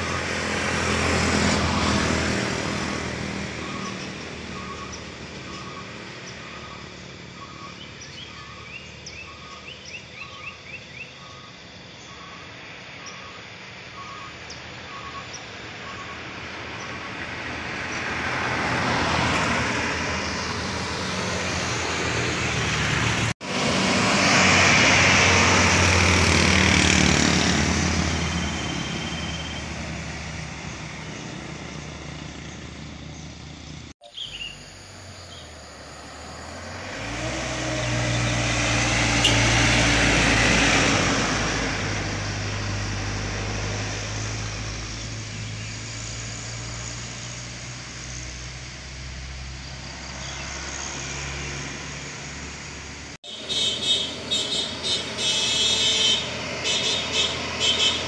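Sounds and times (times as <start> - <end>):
motorcycles passing: 0.0 - 10.0, 16.3 - 34.0, 34.7 - 58.0
loud vehicle pass-bys: 0.0 - 11.0, 11.6 - 58.0
tyres on asphalt: 0.0 - 58.0.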